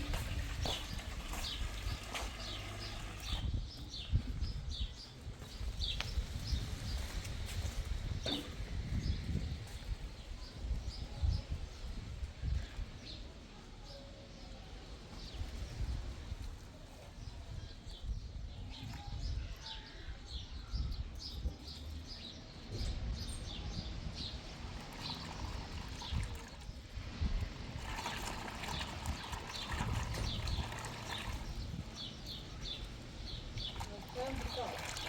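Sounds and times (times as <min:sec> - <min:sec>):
wind rumble on microphone: 0:00.0 - 0:13.4, 0:15.2 - 0:35.0
small birds chirping: 0:00.0 - 0:35.0.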